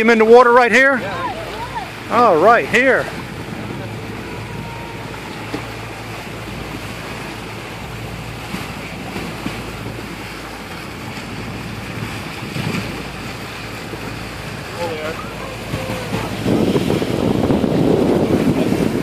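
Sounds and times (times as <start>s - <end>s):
waves slapping boat: 0.0s - 19.0s
wind buffeting microphone: 1.0s - 19.0s.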